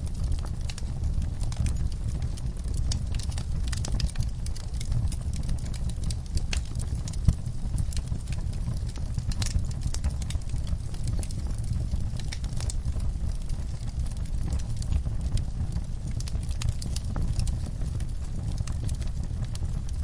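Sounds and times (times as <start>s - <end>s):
low rumble of flame: 0.0s - 20.0s
wood fire crackling and popping: 0.0s - 20.0s.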